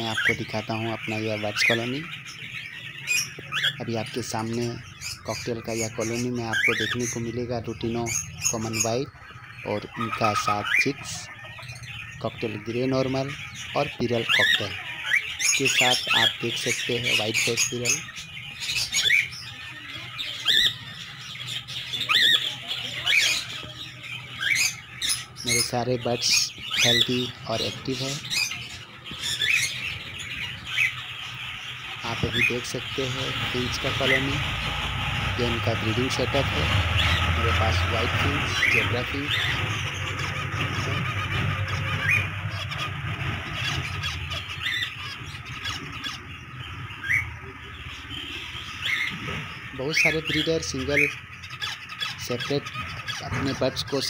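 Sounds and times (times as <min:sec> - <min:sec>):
cockatiels squawking: 0:00.0 - 0:54.0
finches chattering: 0:00.0 - 0:54.0
high chirping: 0:00.0 - 0:54.0.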